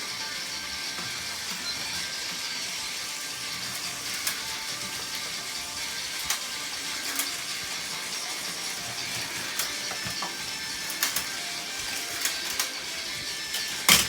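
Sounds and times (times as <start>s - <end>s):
toy train motors whirring: 0.0s - 14.0s.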